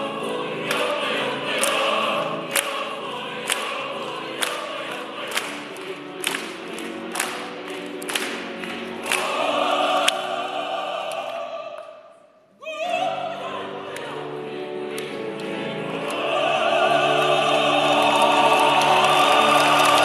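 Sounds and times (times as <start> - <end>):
opera chorus singing: 0.0 - 20.0.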